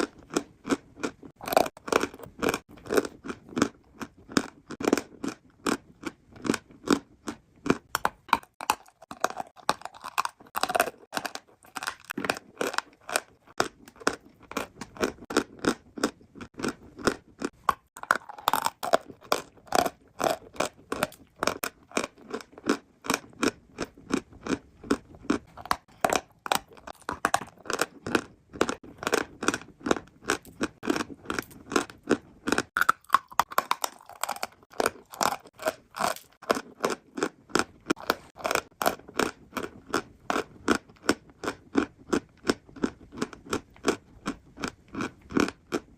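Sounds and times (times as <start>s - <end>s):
chewing chalk crunches: 0.0s - 45.9s.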